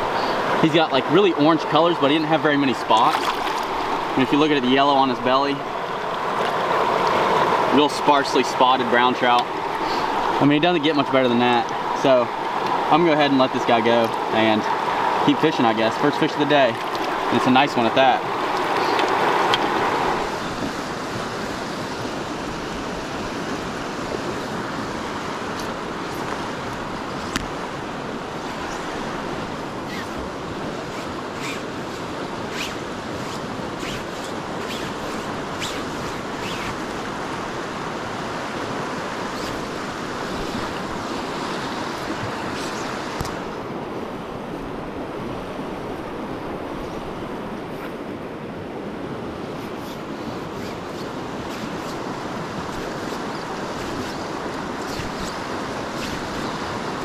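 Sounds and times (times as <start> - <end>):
river flowing over rocks: 0.0 - 47.6, 48.2 - 57.0.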